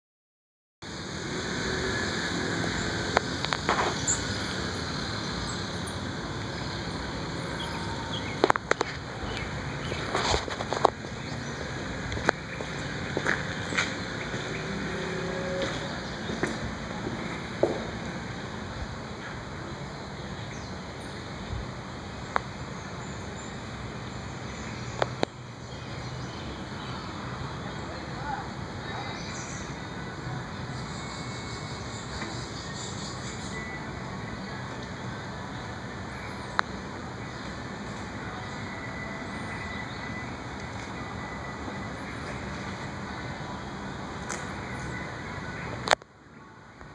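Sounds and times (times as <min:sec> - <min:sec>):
distant traffic: 0:00.8 - 0:46.9
outdoor ambient hiss: 0:00.9 - 0:46.9.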